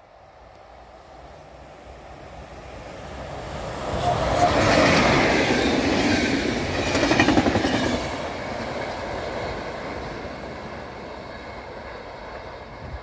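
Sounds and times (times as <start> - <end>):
train coaches rolling past: 0.1 - 13.0.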